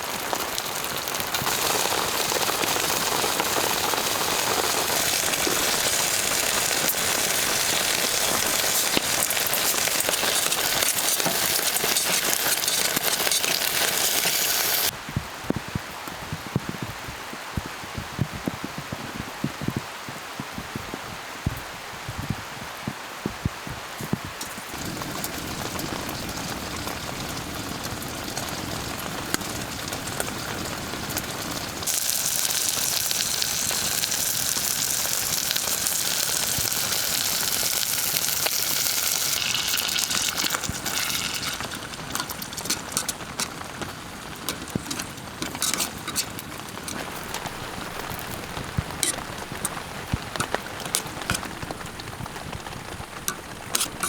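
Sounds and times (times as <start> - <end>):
rain hissing: 0.0 - 15.0, 23.6 - 54.0.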